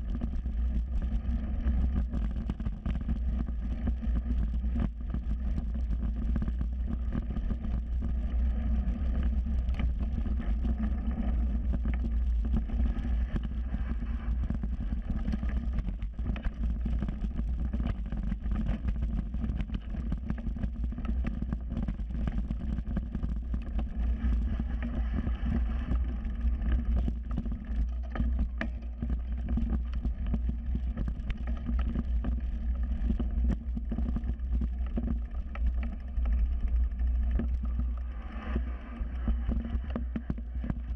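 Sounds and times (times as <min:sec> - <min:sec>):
rumble of wind and tyres: 0:00.0 - 0:40.9.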